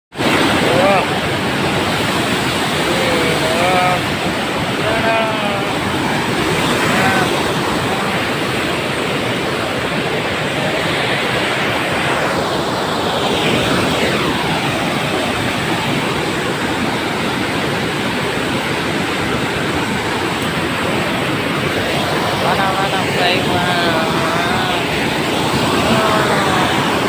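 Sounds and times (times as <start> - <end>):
loud rushing noise: 0.1 - 27.0.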